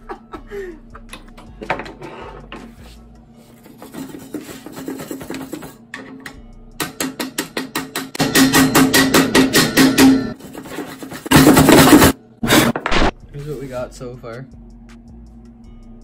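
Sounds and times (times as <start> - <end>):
background music with drumbeat: 0.0 - 10.4, 11.2 - 16.0.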